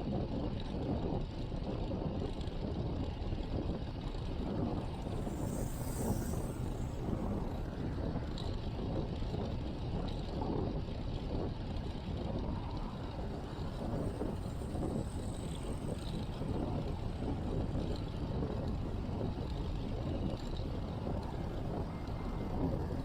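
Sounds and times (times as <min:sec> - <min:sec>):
road and tyre noise: 0:00.0 - 0:23.0
wind buffeting microphone: 0:00.0 - 0:23.0.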